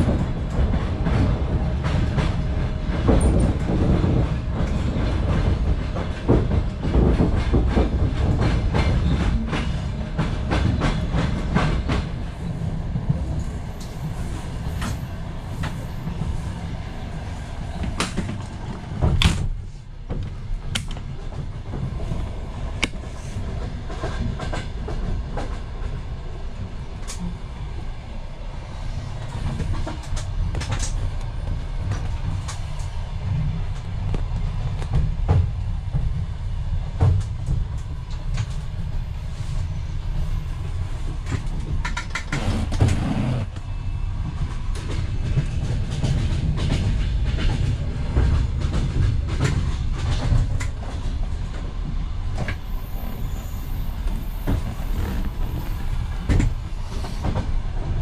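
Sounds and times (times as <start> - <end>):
train coach rumble: 0.0 - 58.0.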